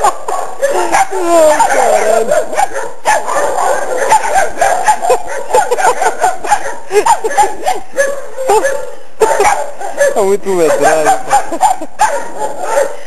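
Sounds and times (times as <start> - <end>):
puppies yapping: 0.0 - 13.0.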